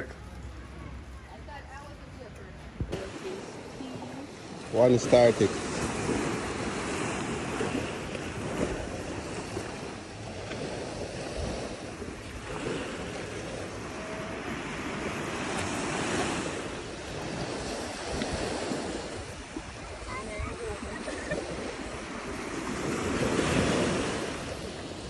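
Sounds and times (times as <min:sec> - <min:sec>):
wind buffeting microphone: 0:00.4 - 0:25.0
surf washing on beach: 0:02.7 - 0:25.0.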